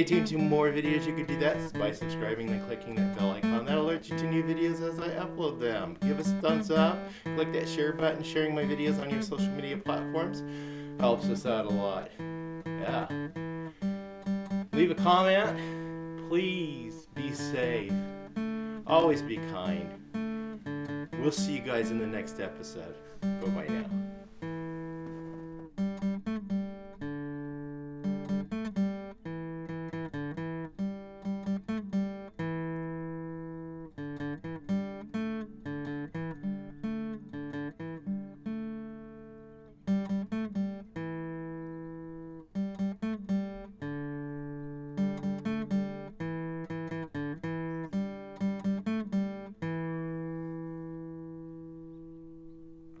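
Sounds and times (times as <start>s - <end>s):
acoustic guitar melody: 0.0s - 53.0s.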